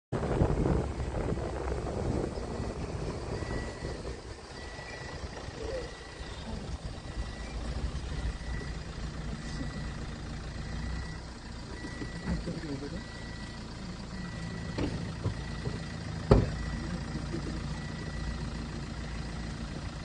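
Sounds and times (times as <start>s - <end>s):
vehicle engine idling: 0.2s - 20.0s.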